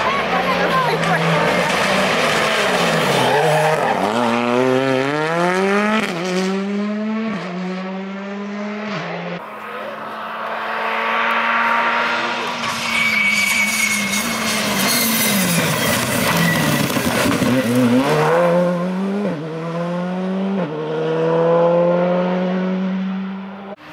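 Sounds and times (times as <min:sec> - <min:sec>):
rally car engine accelerating: 0:00.0 - 0:23.9.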